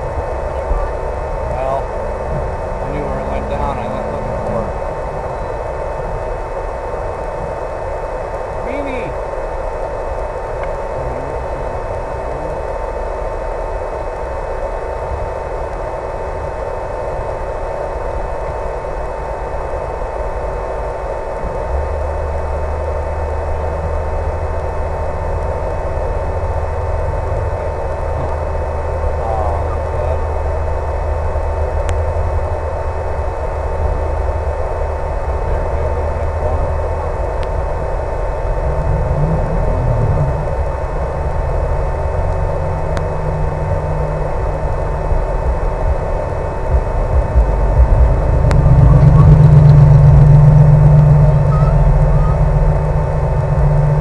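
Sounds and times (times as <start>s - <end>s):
constant hum: 0.0s - 54.0s
low rumble: 0.0s - 54.0s.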